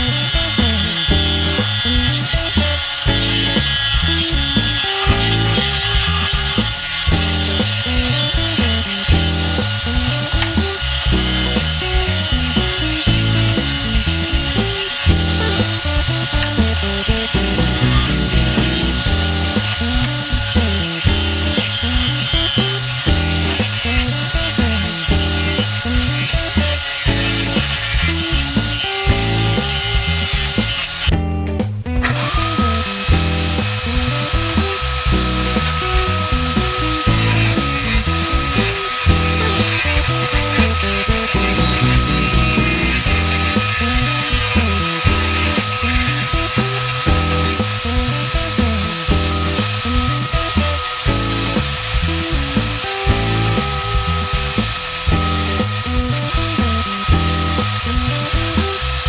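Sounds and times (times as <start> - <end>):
electric drill whining: 0.0 - 31.2, 32.0 - 59.0
tool cutting wood: 0.0 - 31.2, 32.0 - 59.0
background music with bass line: 0.0 - 59.0.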